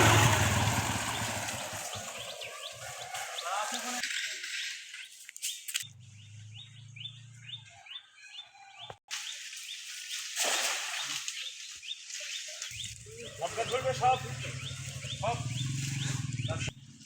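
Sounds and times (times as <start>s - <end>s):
bird chirping: 0.5s - 9.9s, 11.0s - 16.8s.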